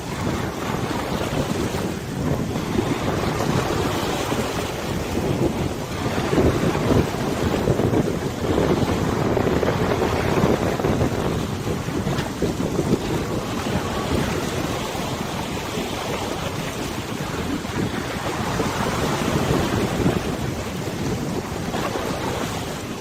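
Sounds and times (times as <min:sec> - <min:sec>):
river water washing: 0:00.0 - 0:23.0
wind buffeting microphone: 0:00.0 - 0:23.0.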